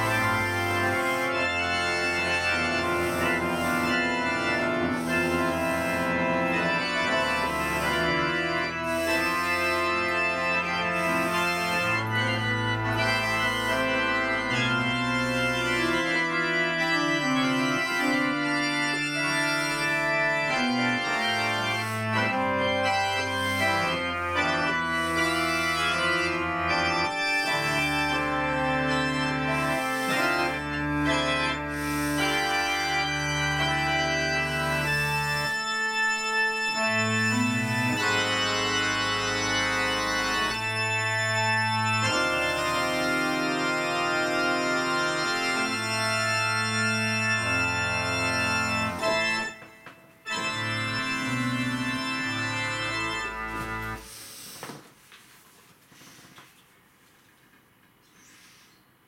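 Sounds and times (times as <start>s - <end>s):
organ playing: 0.0s - 54.4s.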